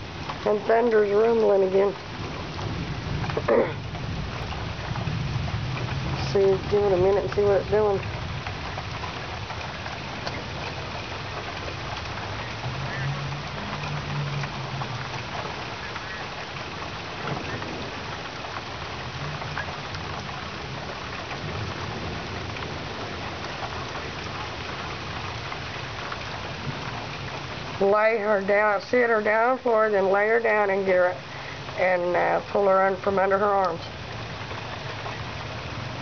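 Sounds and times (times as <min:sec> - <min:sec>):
faint low rumbles: 0:00.0 - 0:36.0
heavy rain: 0:00.0 - 0:36.0.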